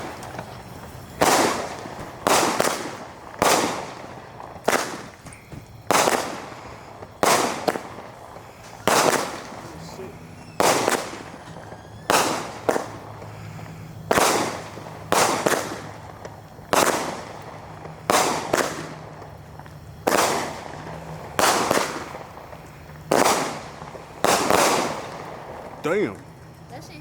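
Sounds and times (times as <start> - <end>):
fireworks firing: 0.0 - 27.0.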